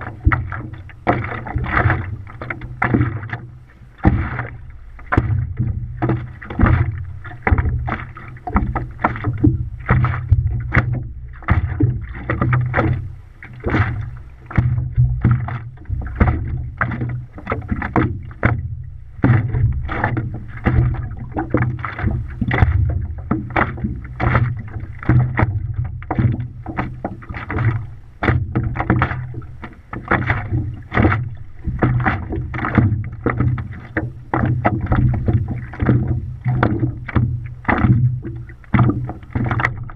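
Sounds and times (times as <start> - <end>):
low rumble: 0.0 - 39.9
water splashing against paddleboard: 0.0 - 39.9.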